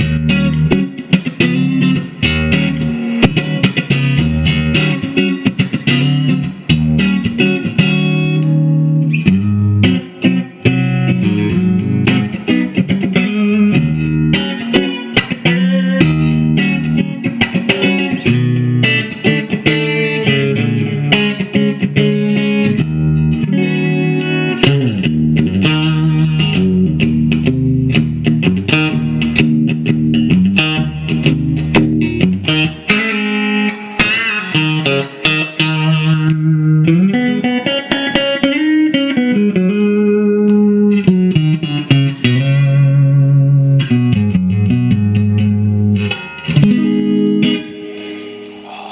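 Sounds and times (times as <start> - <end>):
electric guitar single-note lines: 0.0 - 48.9.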